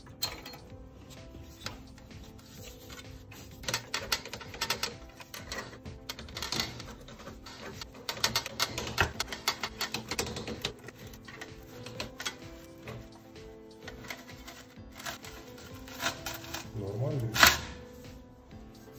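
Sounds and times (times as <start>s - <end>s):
metallic clicks and knocks: 0.0s - 18.1s.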